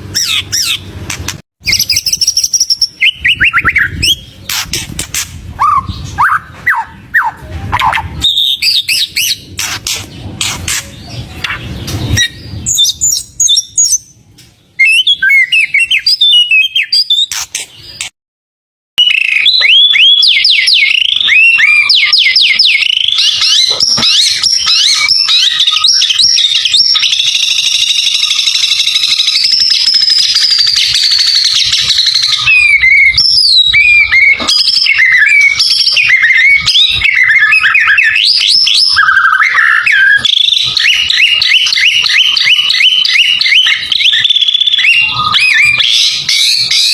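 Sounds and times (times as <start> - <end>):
songbird singing whistles and trills: 1.6 - 9.5, 11.0 - 14.2, 14.8 - 18.1, 19.0 - 46.9.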